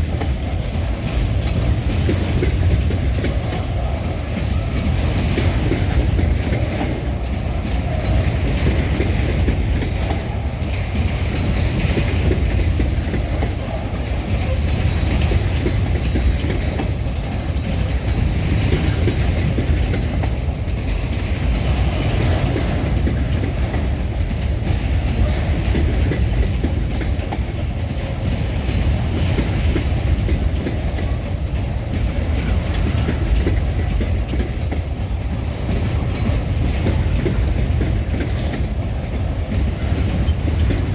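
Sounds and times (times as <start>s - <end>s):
train wheels clattering over rail joints: 0.0s - 40.9s.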